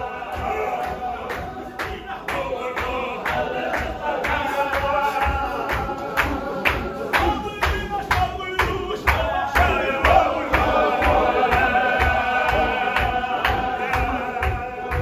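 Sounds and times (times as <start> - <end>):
men chanting: 0.0 - 15.0
steady beat of sharp strikes: 0.0 - 15.0.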